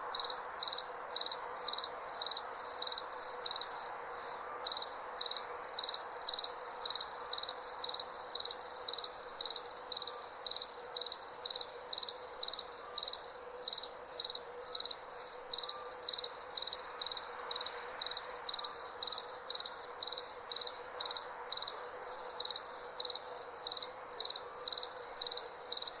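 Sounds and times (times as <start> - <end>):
cricket chirping: 0.0 - 26.0
faint background hiss: 0.0 - 26.0.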